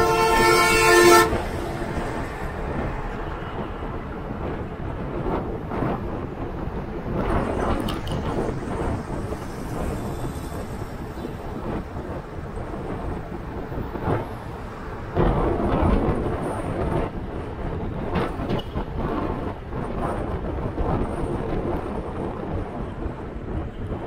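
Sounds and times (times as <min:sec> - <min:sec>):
car interior road rumble: 0:00.0 - 0:24.0.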